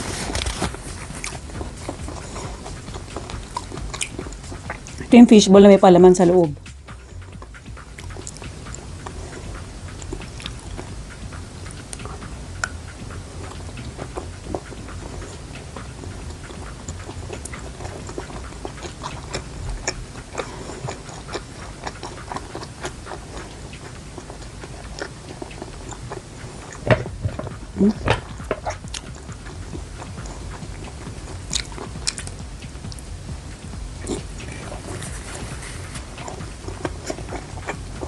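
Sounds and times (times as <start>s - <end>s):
chewing and mouth sounds: 0.0s - 5.1s, 6.6s - 38.0s
low steady hum: 0.0s - 38.0s.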